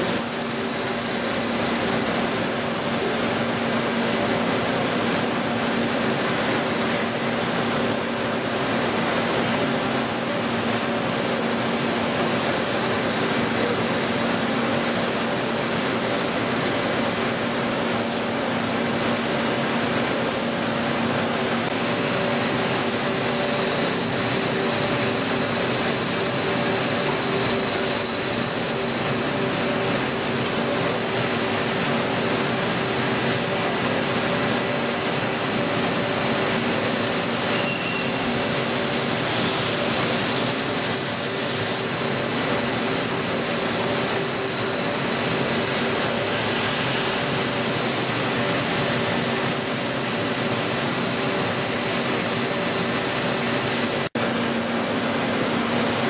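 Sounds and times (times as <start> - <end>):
machining center humming: 0.0 - 56.0.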